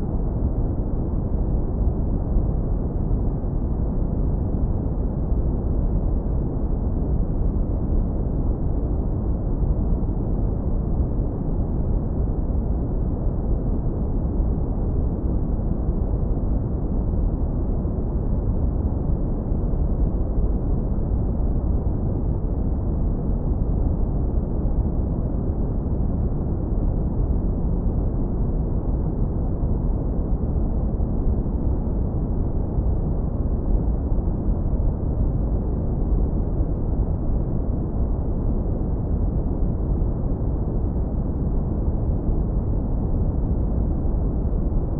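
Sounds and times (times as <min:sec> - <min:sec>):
deep rumbling brown noise: 0:00.0 - 0:44.9.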